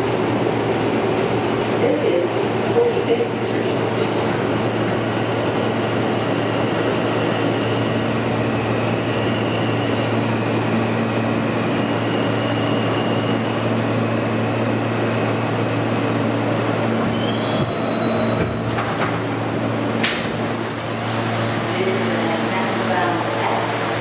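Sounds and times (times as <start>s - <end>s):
train propulsion hum: 0.0s - 24.0s
wheels rumbling on rail: 0.0s - 24.0s.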